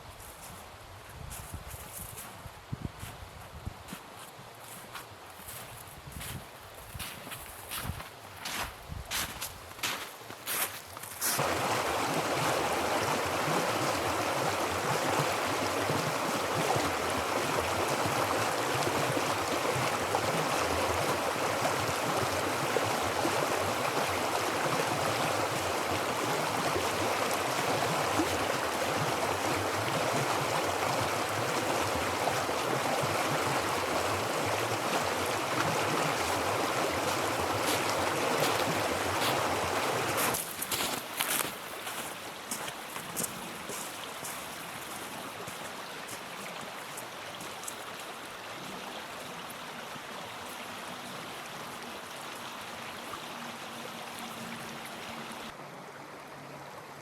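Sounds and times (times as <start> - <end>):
river water rushing: 11.4 - 57.0.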